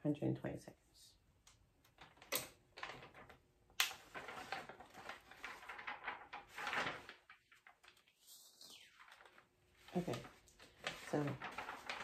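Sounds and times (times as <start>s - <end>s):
paper rustling and crinkling: 2.0s - 12.0s.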